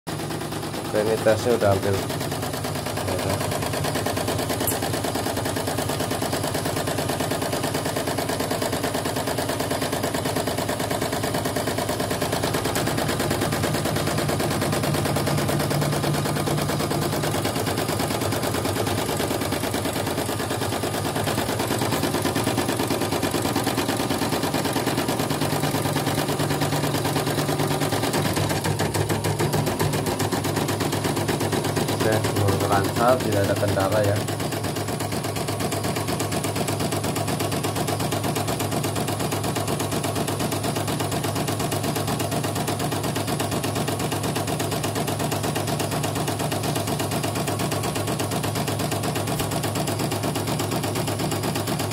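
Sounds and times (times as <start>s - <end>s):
embroidery machine rattling: 0.1s - 51.9s.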